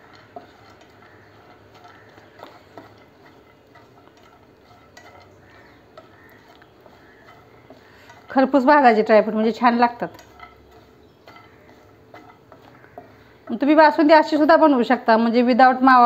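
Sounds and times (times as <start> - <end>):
spatula scraping a pan: 0.0 - 15.1.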